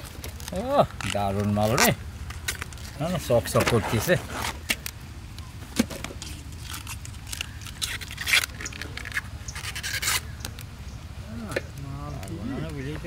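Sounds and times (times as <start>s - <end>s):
banana flowers peeled by hand: 0.0s - 10.7s
steady low hum: 0.0s - 13.0s.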